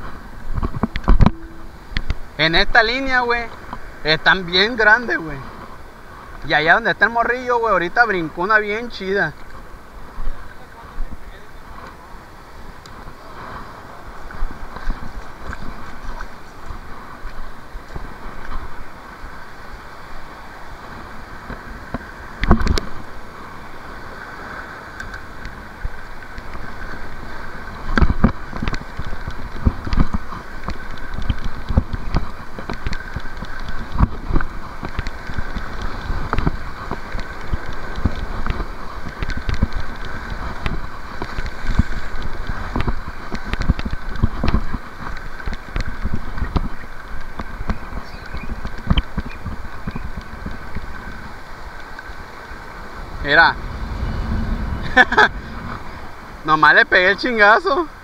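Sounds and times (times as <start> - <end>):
wind on microphone: 0.0 - 6.5, 8.9 - 58.0.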